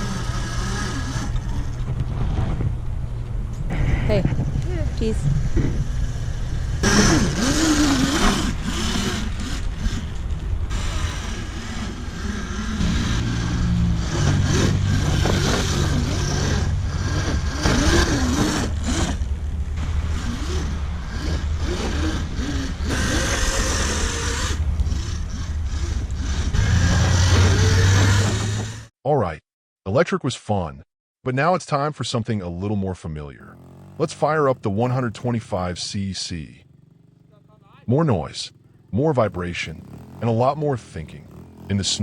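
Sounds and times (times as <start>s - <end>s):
dirt bike motor running: 0.0s - 28.9s, 33.4s - 42.0s.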